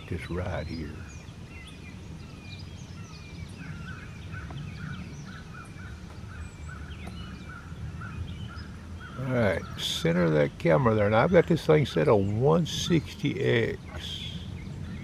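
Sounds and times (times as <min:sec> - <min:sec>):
repeated short bird calls: 0:00.0 - 0:15.0
steady low rumble: 0:00.0 - 0:15.0
wild birds chirping: 0:00.0 - 0:15.0.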